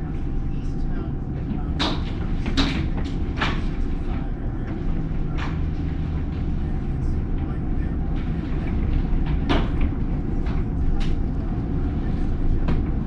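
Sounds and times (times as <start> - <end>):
tornado wind rumbling: 0.0 - 13.0.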